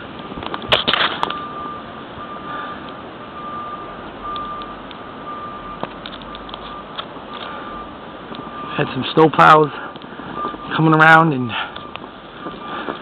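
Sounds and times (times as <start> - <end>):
wind and snow hiss: 0.0 - 13.0
backup alarm beeping: 1.2 - 13.0.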